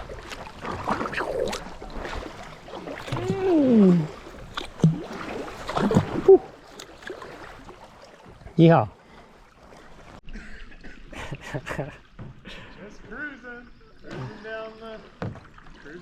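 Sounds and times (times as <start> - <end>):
paddle splashes: 0.0 - 10.2, 11.0 - 16.0.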